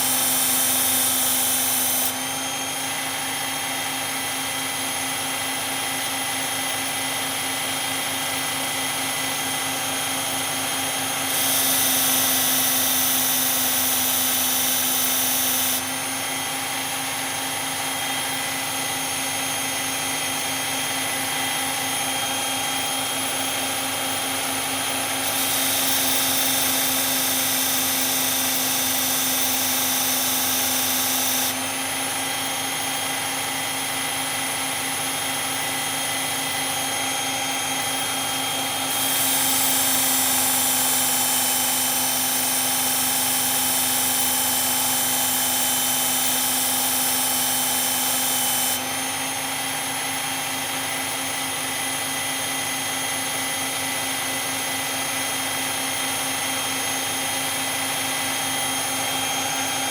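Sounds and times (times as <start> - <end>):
belt sharpener motor hum: 0.0 - 59.9.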